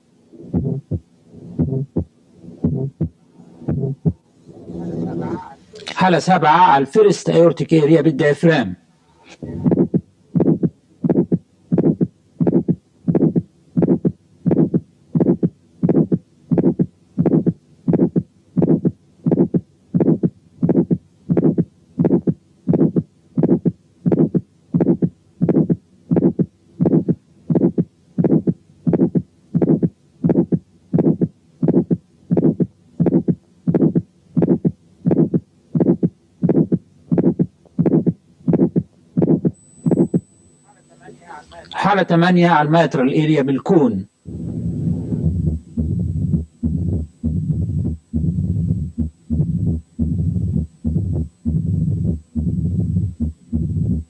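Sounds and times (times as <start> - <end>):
heartbeat through stethoscope: 0.4 - 4.9, 9.5 - 40.2, 44.3 - 54.0.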